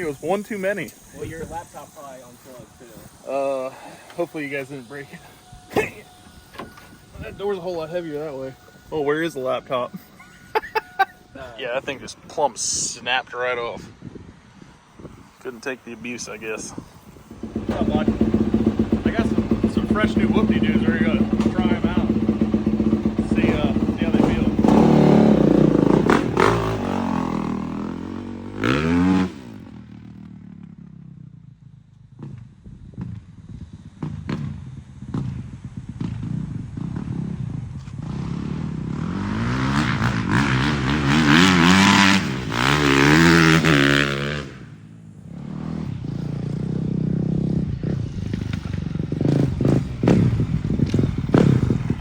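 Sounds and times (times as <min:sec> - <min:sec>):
off-road engine revving: 0:00.0 - 0:13.8, 0:15.4 - 0:30.7, 0:32.1 - 0:52.0.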